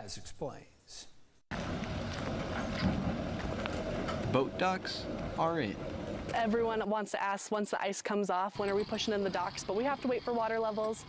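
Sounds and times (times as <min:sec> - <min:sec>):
steady outdoor noise: 0:01.5 - 0:11.0.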